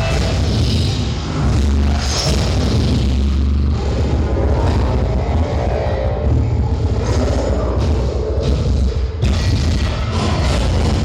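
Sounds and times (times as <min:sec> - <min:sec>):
experimental noise music: 0:00.0 - 0:11.0.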